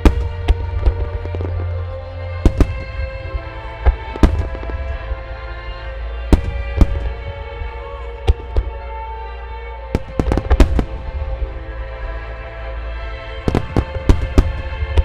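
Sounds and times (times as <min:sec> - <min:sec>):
show music: 0:00.0 - 0:15.0.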